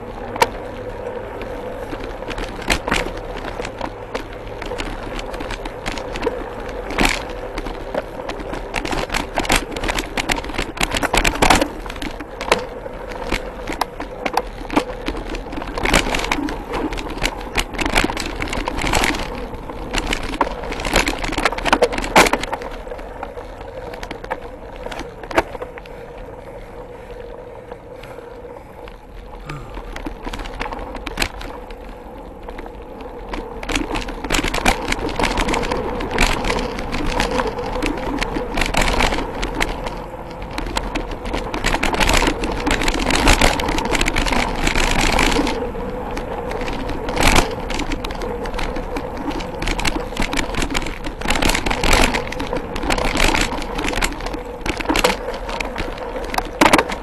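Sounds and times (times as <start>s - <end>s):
bike rattling over bumps: 0.0s - 57.0s
bike tyres rolling on dirt: 0.0s - 57.0s.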